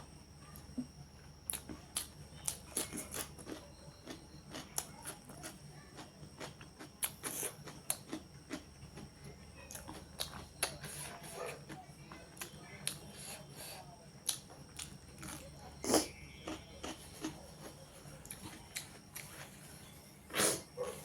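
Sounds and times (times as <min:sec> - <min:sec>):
faint steady hum: 0:00.0 - 0:21.0
person chewing food: 0:01.5 - 0:19.7.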